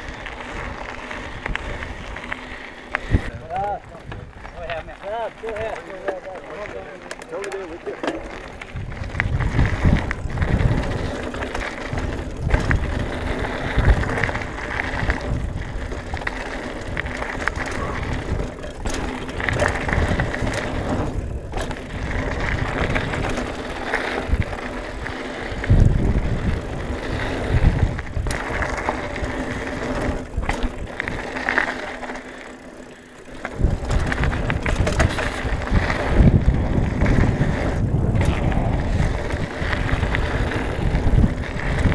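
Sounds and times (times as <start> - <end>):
wind buffeting microphone: 0.0 - 5.8, 8.3 - 31.5, 33.2 - 41.9
bike rattling: 0.0 - 41.9
bike tyres rolling over gravel: 0.0 - 41.9.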